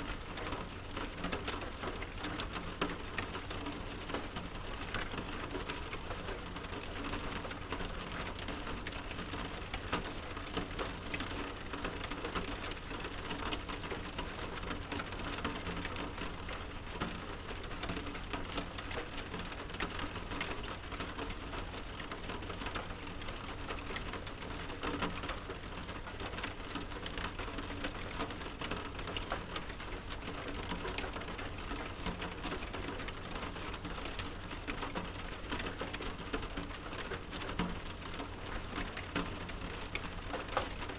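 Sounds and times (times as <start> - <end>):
rain pattering on window: 0.0 - 40.9.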